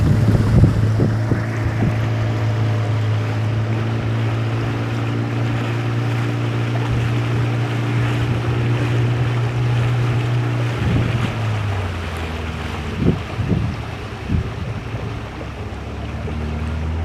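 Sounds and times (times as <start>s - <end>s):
outboard motor droning: 0.0s - 17.0s
rushing water: 0.0s - 17.0s
wind noise on microphone: 0.0s - 17.0s.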